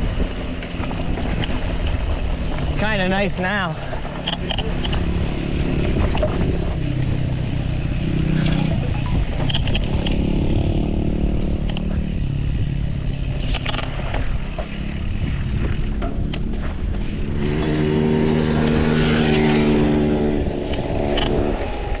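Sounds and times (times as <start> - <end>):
wind rumble on microphone: 0.0 - 22.0
vehicle engine passing: 2.4 - 22.0.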